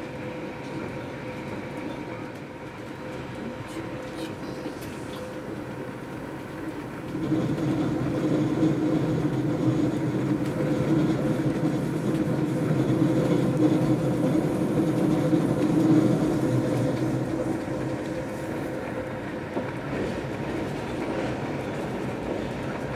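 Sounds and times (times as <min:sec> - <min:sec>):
train rumbling inside carriage: 0:00.0 - 0:22.9.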